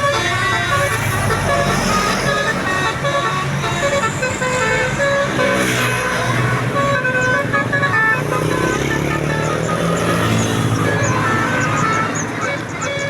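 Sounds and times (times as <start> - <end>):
bus engine running: 0.0 - 13.0
multi-tone bus horn tune: 0.0 - 13.0.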